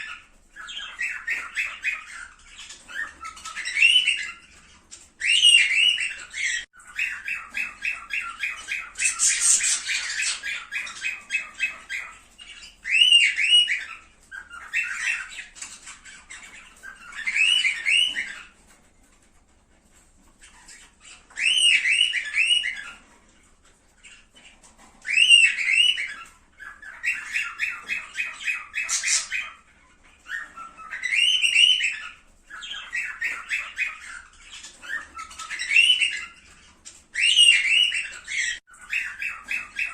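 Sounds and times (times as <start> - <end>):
cockatiels calling: 0.0 - 39.9.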